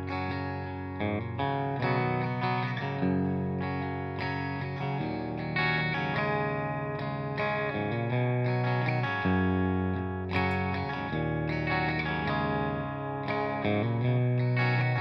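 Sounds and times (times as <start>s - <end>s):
electric guitar chords and notes: 0.0s - 15.0s.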